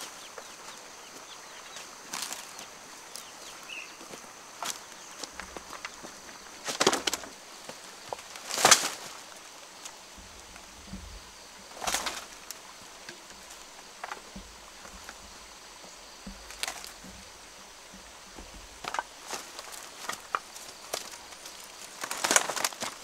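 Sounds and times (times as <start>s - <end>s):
dry leaf thatch rustling: 0.0s - 23.0s.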